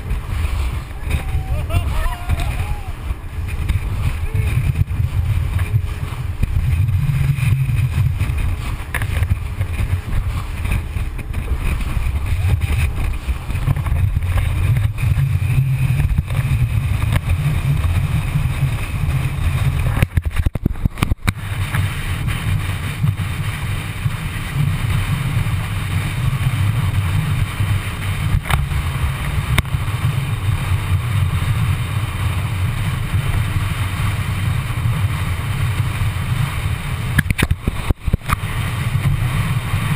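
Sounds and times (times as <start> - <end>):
muffled boat rumble: 0.0 - 39.9.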